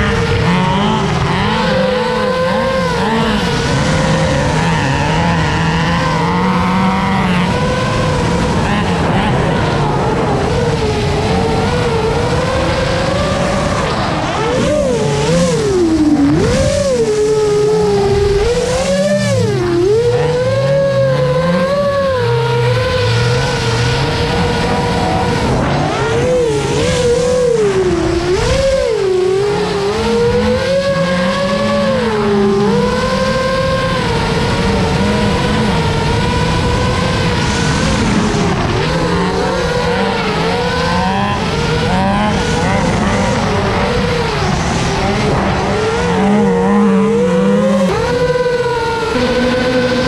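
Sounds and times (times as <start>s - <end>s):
drone propellers whining: 0.0s - 50.0s.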